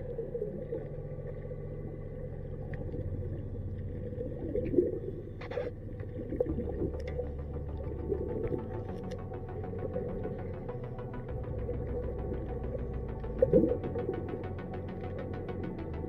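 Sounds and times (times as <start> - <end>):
low underwater hum: 0.0 - 16.0.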